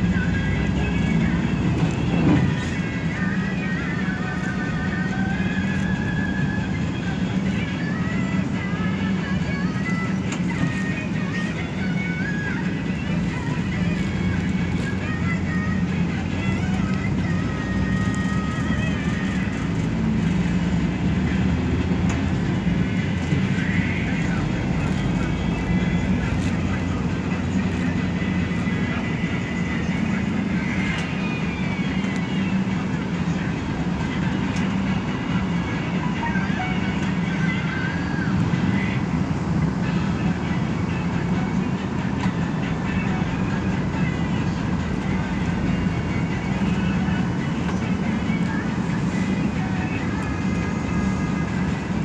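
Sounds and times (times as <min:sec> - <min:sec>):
bus engine and road noise: 0:00.0 - 0:52.0.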